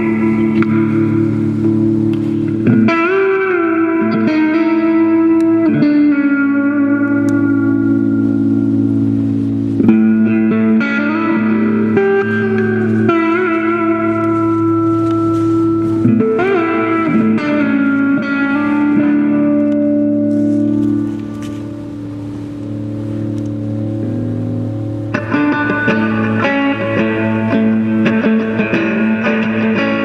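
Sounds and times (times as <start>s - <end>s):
electric guitar sustained notes: 0.0s - 30.0s
held low notes: 0.0s - 30.0s.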